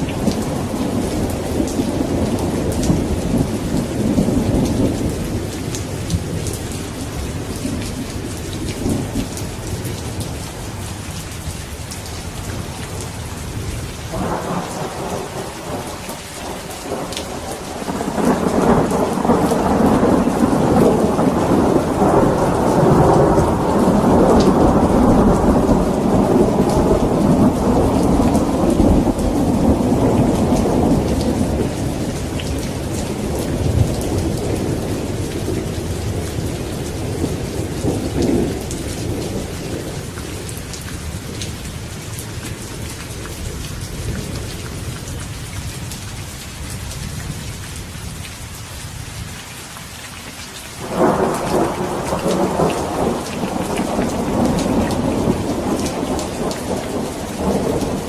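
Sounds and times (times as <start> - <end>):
thunder rumbling: 0.0 - 10.8, 12.2 - 41.6, 50.8 - 58.0
steady rain: 0.0 - 58.0.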